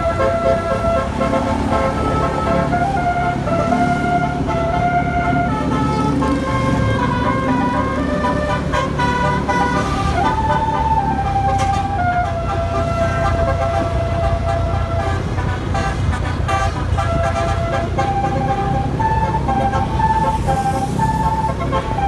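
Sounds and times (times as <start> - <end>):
bus horn playing a melody: 0.0 - 22.0
engine rumbling: 0.0 - 22.0.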